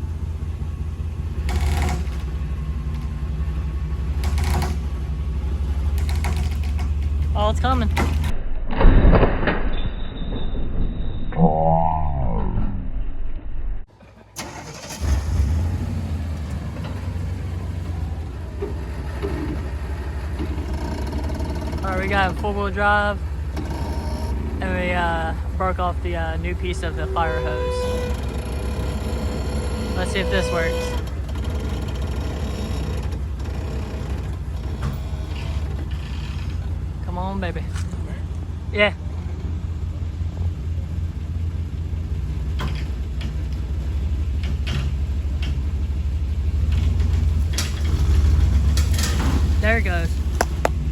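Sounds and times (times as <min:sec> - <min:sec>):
truck engine droning: 0:00.0 - 0:08.8, 0:09.4 - 0:50.9.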